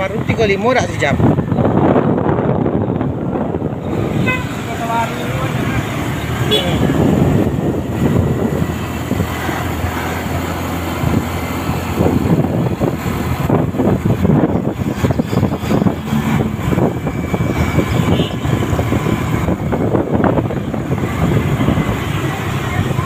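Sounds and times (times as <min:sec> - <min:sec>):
wind buffeting microphone: 0:00.0 - 0:23.0
low rushing riding drone: 0:01.0 - 0:23.0.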